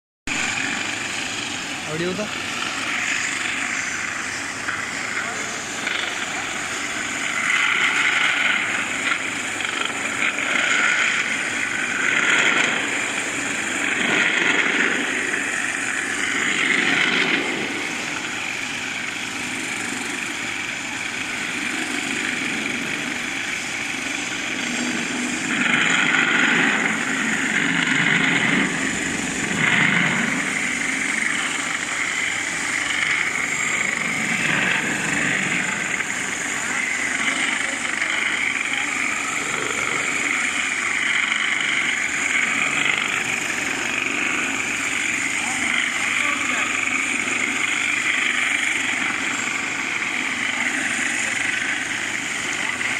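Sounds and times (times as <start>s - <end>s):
floor grinder with high whine: 0.3s - 52.9s
industrial vacuum cleaner: 0.3s - 52.9s.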